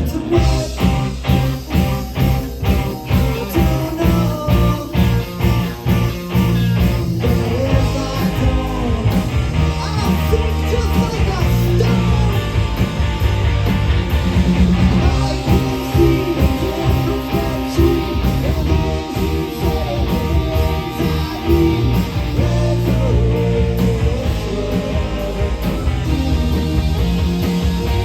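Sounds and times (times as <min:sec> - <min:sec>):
electric guitar: 0:00.0 - 0:28.0
drum beat: 0:00.4 - 0:28.0.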